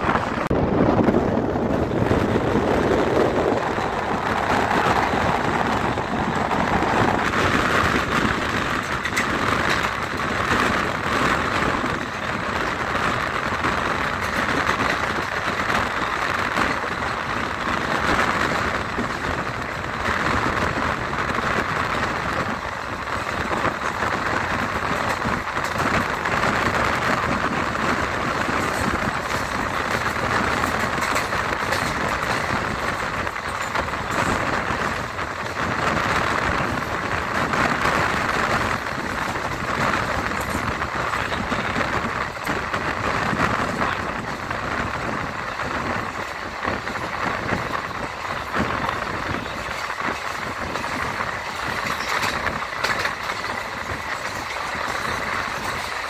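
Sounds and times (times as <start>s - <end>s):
train wheels rolling on track: 0.0s - 56.0s.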